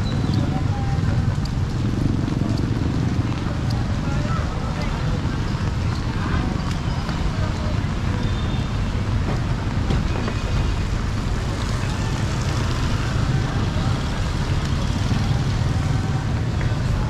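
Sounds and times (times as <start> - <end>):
passing traffic rumble: 0.0 - 17.0.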